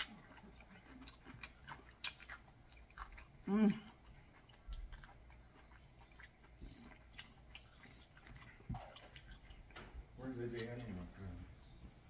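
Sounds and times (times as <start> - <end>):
chewing with wet mouth clicks: 0.0 - 11.1.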